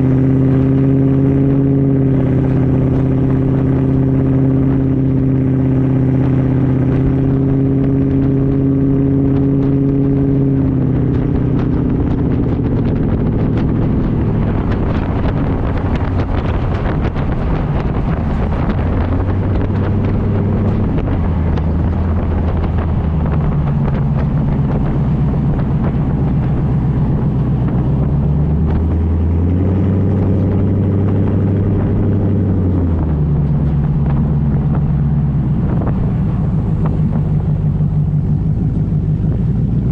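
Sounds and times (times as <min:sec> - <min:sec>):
car engine driving: 0:00.0 - 0:39.9
wind noise: 0:00.0 - 0:39.9.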